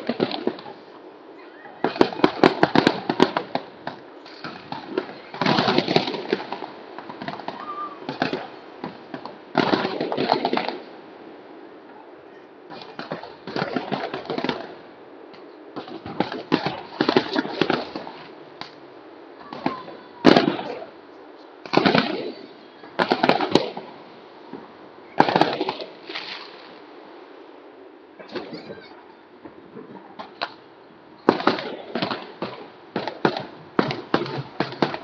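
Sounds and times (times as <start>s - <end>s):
fireworks crackling bangs: 0.0s - 0.9s, 1.8s - 11.7s, 12.7s - 35.0s.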